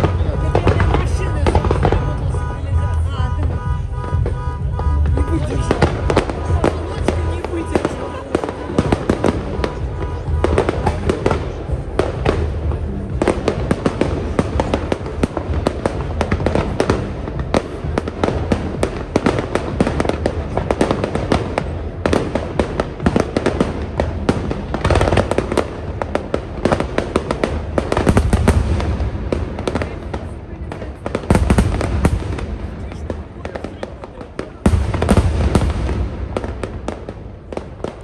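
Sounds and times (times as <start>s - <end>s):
deep fireworks booms: 0.0s - 38.0s
fireworks bangs and crackling: 0.0s - 38.0s.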